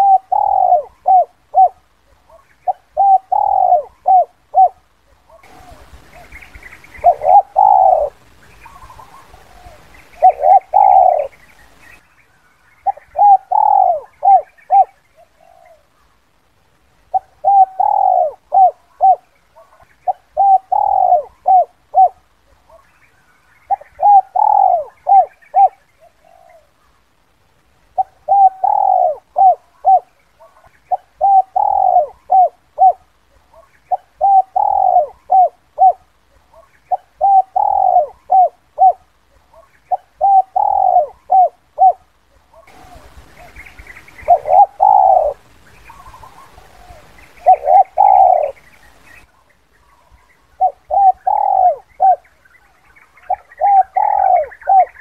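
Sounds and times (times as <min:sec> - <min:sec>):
dove cooing: 0:00.0 - 0:11.8, 0:12.8 - 0:16.1, 0:17.1 - 0:22.9, 0:23.6 - 0:26.9, 0:27.9 - 0:55.0
faint bird chirps: 0:00.0 - 0:16.4, 0:17.0 - 0:27.2, 0:27.8 - 0:55.0.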